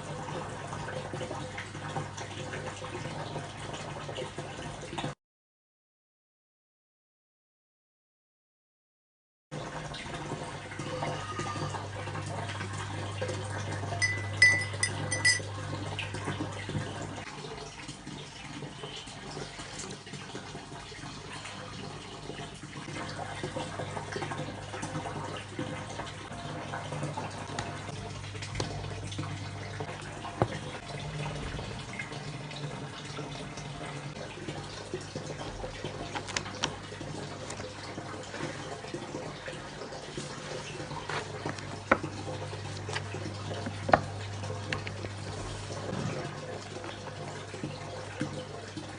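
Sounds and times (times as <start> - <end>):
water trickling and splashing: 0.0 - 5.2, 9.5 - 48.9.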